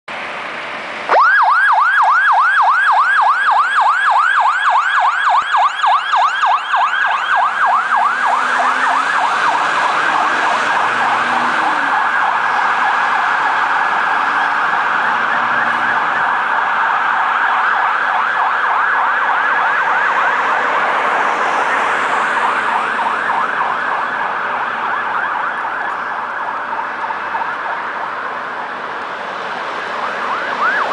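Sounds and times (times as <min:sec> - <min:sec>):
fire engine siren yelping: 0:01.1 - 0:30.9.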